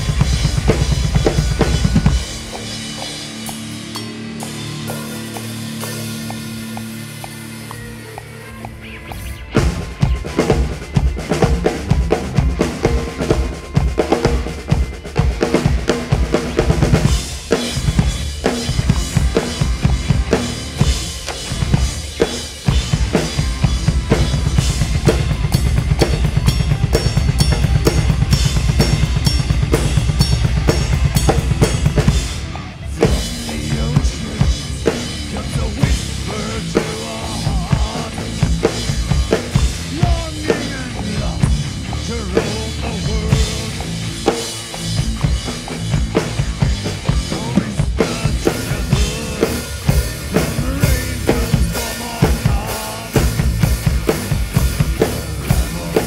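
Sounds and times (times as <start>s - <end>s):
rapid kick-drum strokes: 0.0s - 8.4s, 9.2s - 56.0s
band melody: 0.0s - 56.0s.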